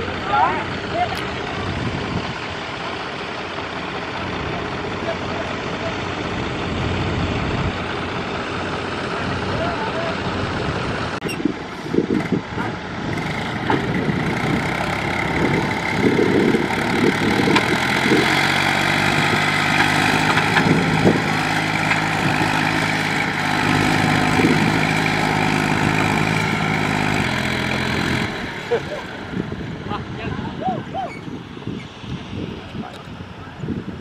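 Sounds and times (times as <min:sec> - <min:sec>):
diesel tractor engine under load: 0:00.0 - 0:34.0.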